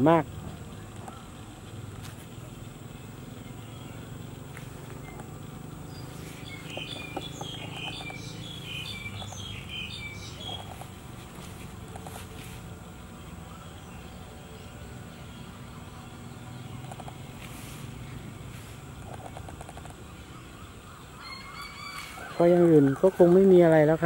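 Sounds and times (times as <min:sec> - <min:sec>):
bird chirping: 0:00.0 - 0:24.0
outdoor background noise: 0:00.0 - 0:24.0.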